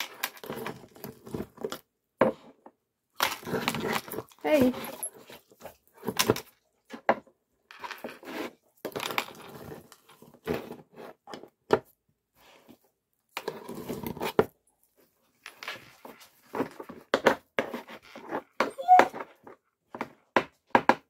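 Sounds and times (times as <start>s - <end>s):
hands handling wet dog food: 0.0s - 19.6s.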